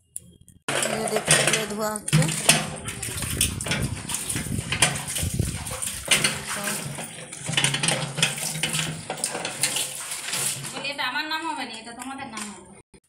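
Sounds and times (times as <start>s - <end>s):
metal pot scraping and knocking: 0.7s - 11.2s
water splashing: 0.7s - 11.3s.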